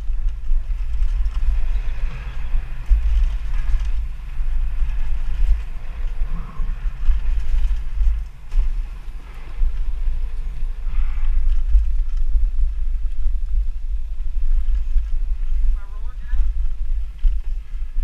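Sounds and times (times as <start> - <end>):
tyres rumbling on dirt: 0.0 - 18.0
wind buffeting microphone: 0.0 - 18.0.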